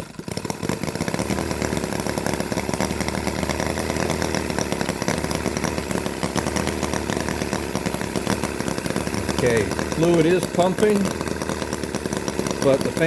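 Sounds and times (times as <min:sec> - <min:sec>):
model engine buzzing rattle: 0:00.0 - 0:13.0.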